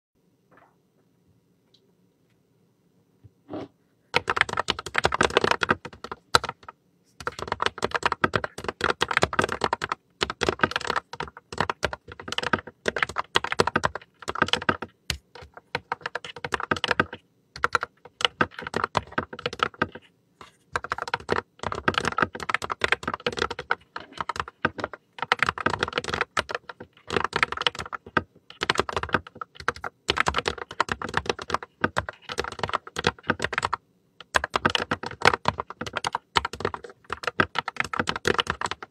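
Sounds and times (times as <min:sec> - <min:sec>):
mechanical keyboard typing: 0:04.2 - 0:20.0, 0:20.7 - 0:38.9.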